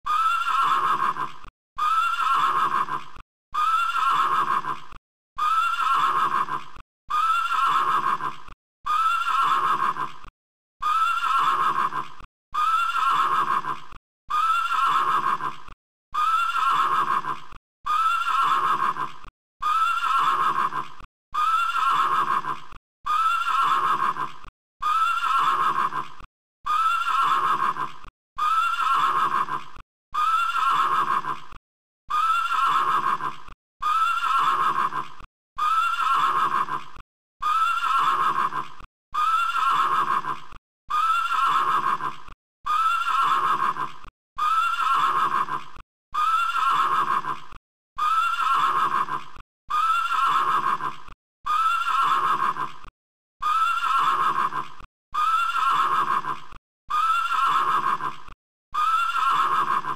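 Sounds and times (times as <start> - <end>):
horse whinnying: 0.1 - 59.9.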